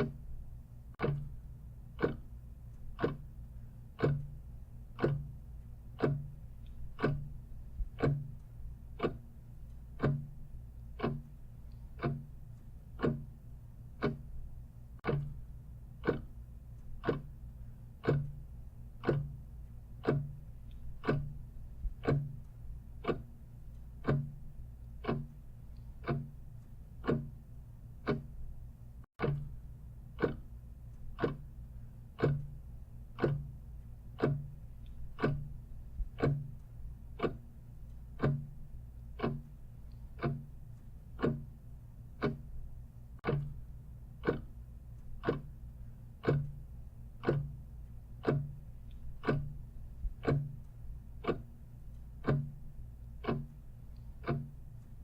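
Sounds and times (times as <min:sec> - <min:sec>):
clock ticking: 0:00.0 - 0:55.0
faint low hum: 0:00.0 - 0:55.0.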